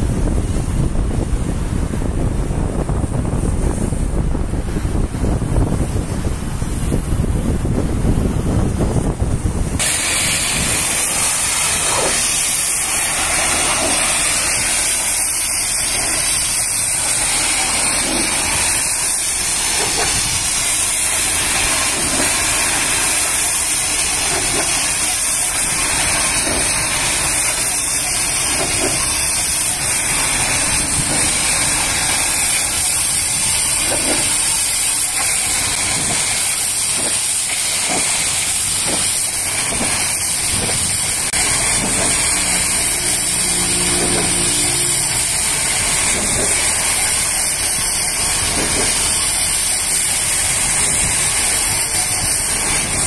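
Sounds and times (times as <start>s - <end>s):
pressure washer spraying: 0.0s - 53.0s.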